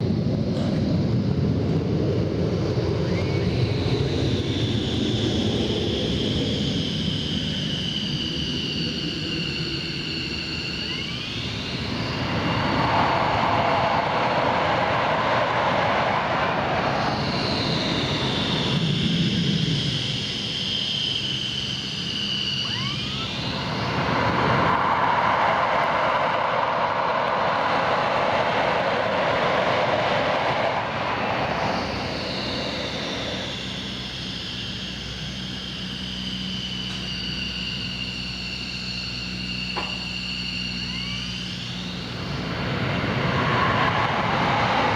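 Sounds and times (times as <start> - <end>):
jet turbine whine: 0.0 - 44.9.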